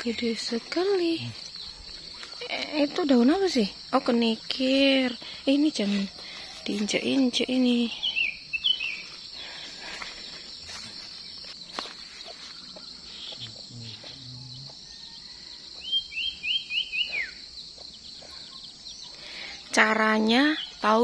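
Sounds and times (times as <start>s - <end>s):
insects buzzing: 0.0s - 21.0s
bird chirping: 1.2s - 21.0s.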